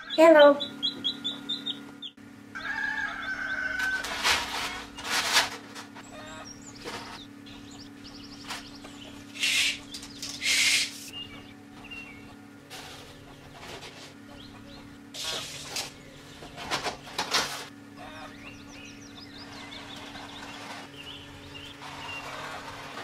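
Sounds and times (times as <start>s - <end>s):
chickens clucking: 0.0s - 23.0s
steady low hum: 0.0s - 23.0s.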